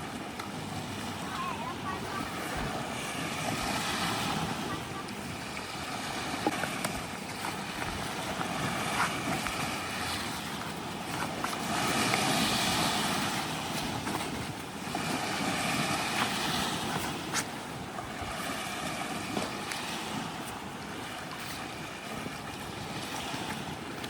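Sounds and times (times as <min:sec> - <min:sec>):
surf and wind rushing: 0:00.0 - 0:24.0.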